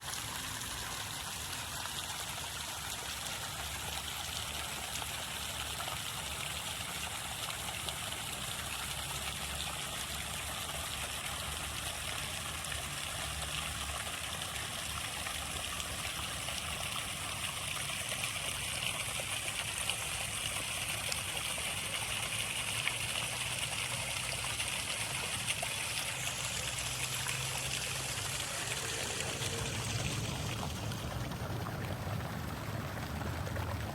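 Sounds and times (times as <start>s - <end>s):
running water trickling: 0.0s - 33.9s
small water splashes: 0.0s - 33.9s.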